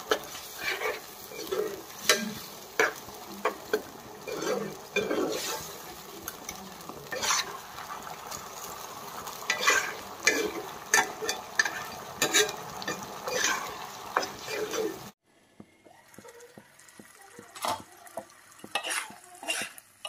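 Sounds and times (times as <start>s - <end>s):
spatula scraping a pan: 0.0s - 15.2s, 17.6s - 20.0s
gravy sizzling: 0.0s - 20.0s.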